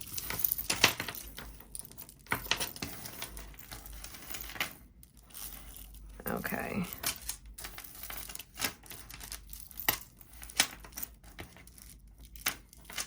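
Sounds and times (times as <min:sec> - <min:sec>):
chain pieces clinking: 0:00.0 - 0:13.0.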